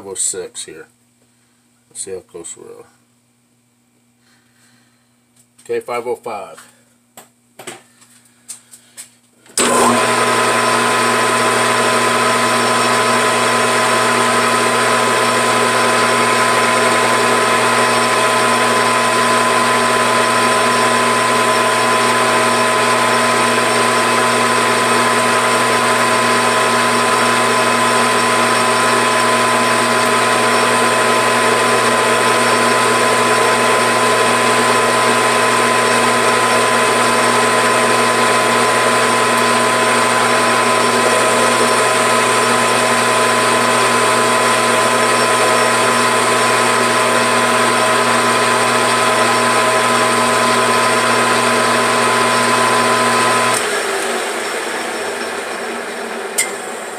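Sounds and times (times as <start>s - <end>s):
lathe running with gear whine: 9.6s - 56.9s.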